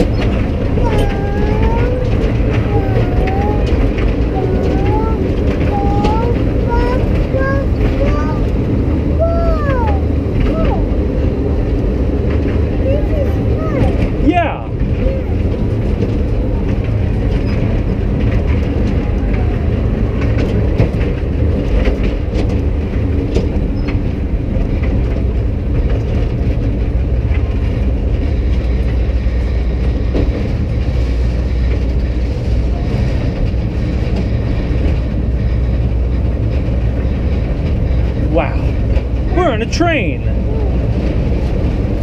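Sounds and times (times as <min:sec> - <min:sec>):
kiddie train ride rumbling: 0:00.0 - 0:42.0
wheels clicking and rattling: 0:00.0 - 0:42.0.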